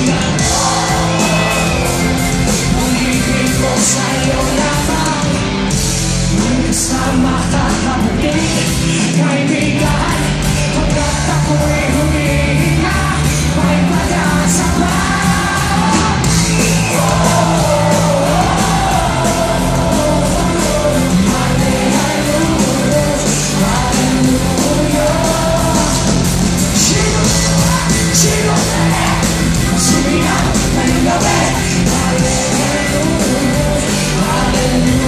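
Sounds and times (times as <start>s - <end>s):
drums: 0.0s - 35.0s
guitar: 0.0s - 35.0s
man singing into a microphone: 2.7s - 5.4s, 6.3s - 16.2s, 16.9s - 26.2s, 26.8s - 29.2s, 29.8s - 35.0s.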